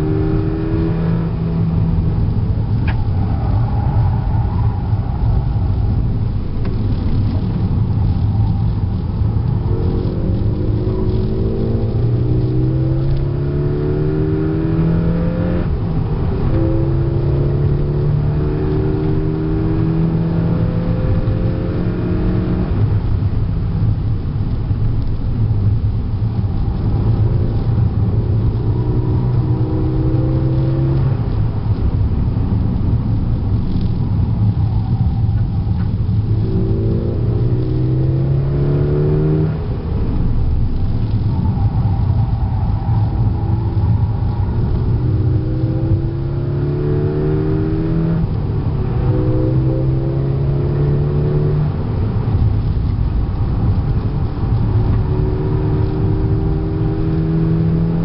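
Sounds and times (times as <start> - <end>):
car engine revving: 0.0 - 24.2, 25.7 - 58.0
tyre and road noise: 0.0 - 58.0.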